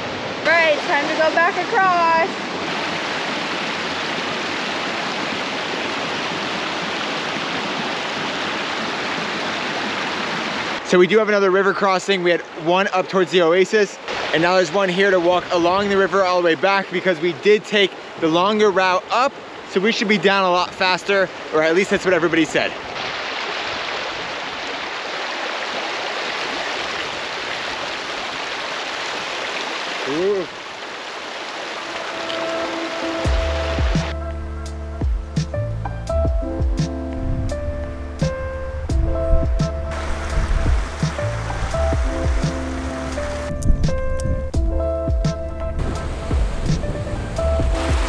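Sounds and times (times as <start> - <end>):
creek water rushing over rocks: 0.0 - 35.6, 38.2 - 48.0.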